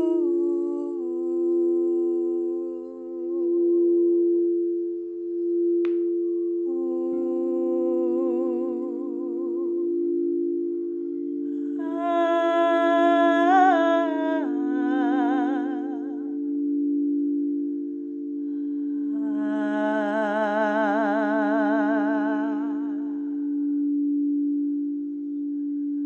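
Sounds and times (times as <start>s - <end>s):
crystal singing bowls ringing: 0.0s - 26.0s.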